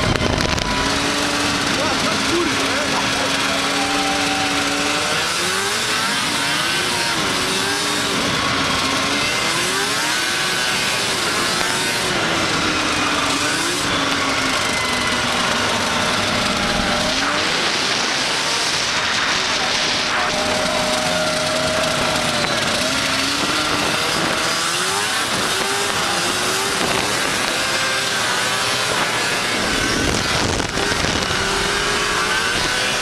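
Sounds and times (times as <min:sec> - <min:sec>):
rushing wind and track noise: 0:00.0 - 0:33.0
snowmobile engine at speed: 0:00.0 - 0:33.0.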